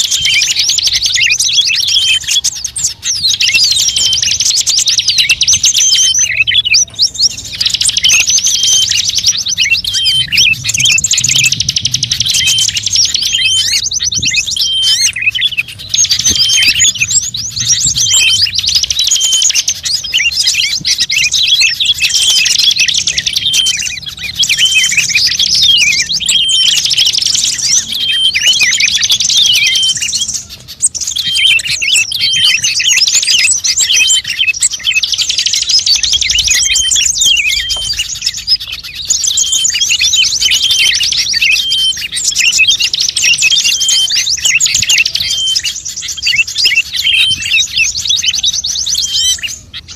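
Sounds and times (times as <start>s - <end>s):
small songbirds chirping and trilling: 0.0s - 49.9s.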